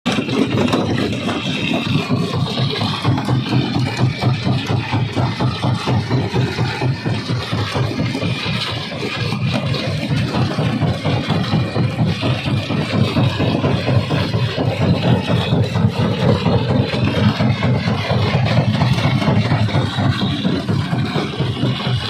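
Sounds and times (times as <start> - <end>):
rock crusher rumbling: 0.1 - 22.0.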